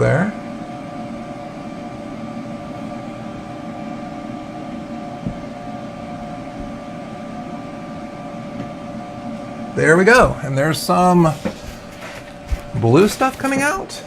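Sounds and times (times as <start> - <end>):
printer fans whirring hum: 0.0 - 14.0.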